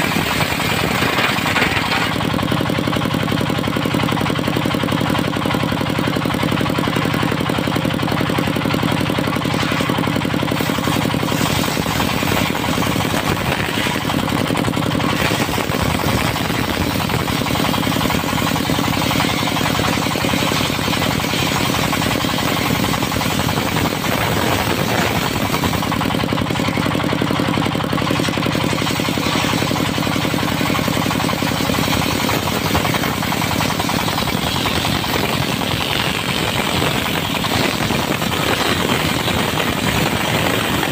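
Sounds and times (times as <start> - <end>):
circular saw blade running: 0.0 - 40.9
diesel engine running: 0.0 - 40.9.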